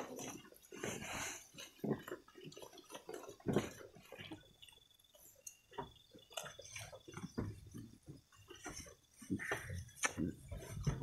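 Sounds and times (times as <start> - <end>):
goats crunching leaves: 0.0 - 4.5, 5.2 - 11.0.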